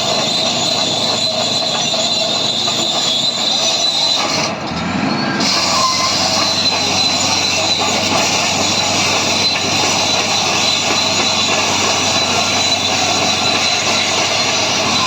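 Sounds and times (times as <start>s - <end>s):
bulldozer engine running: 0.0s - 15.0s.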